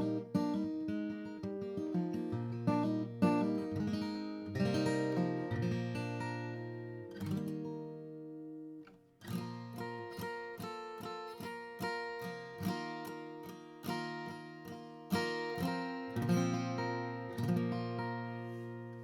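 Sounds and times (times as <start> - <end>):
acoustic guitar picked chords: 0.0 - 19.0.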